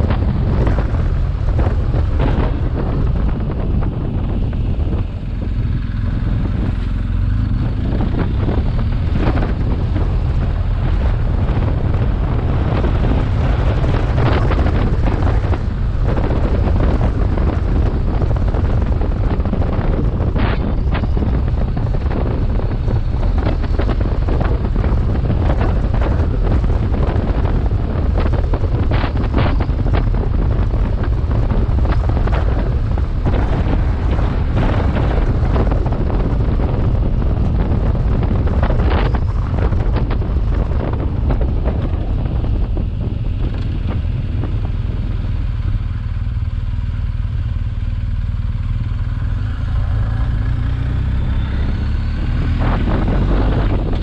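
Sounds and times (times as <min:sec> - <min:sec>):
motorcycle engine rumble: 0:00.0 - 0:54.0
wind buffeting microphone: 0:00.0 - 0:54.0.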